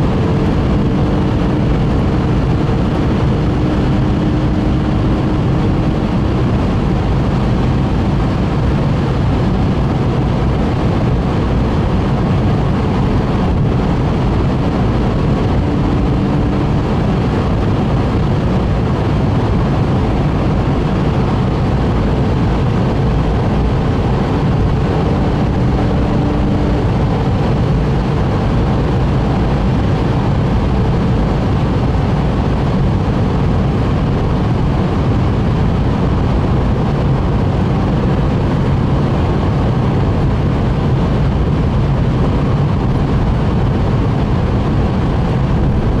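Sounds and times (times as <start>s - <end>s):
car engine drone: 0.0s - 46.0s
tyre and wind noise: 0.0s - 46.0s.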